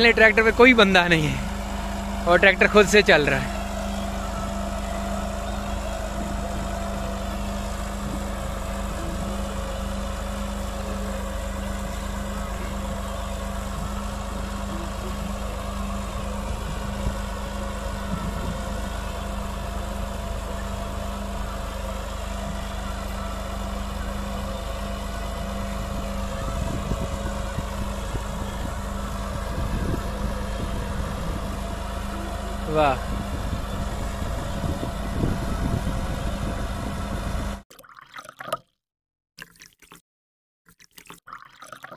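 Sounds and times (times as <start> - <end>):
tractor diesel engine running: 0.0 - 37.6.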